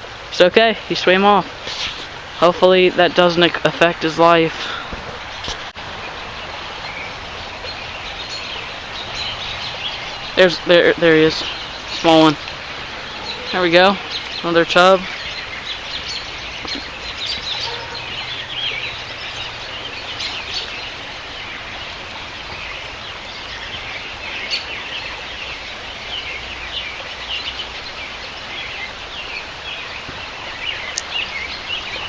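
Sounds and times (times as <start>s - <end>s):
outdoor background hiss: 0.0s - 32.0s
small birds chirping: 0.0s - 32.0s.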